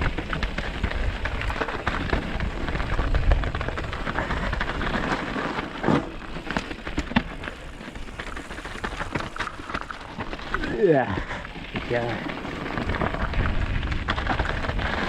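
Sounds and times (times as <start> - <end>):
bike rattling and knocking: 0.0 - 15.0
tyres crunching over stones: 0.0 - 15.0
wind buffeting microphone: 0.0 - 15.0.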